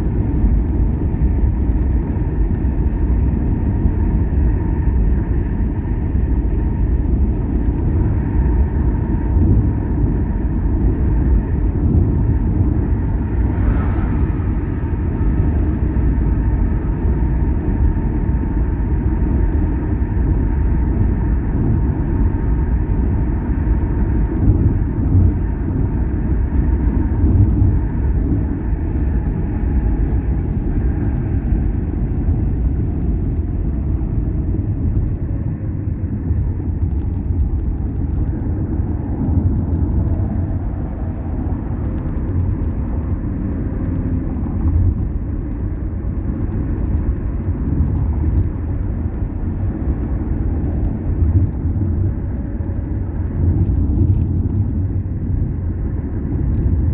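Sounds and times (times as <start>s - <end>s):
car engine and tyre rumble: 0.0s - 56.9s
faint steady whine: 0.0s - 56.9s.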